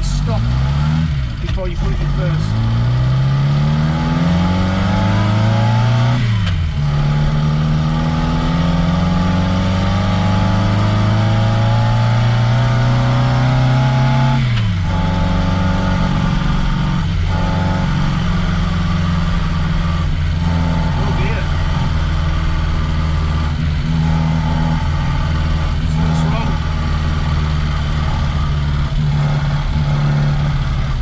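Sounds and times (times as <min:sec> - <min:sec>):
car engine accelerating through gears: 0:00.0 - 0:31.0.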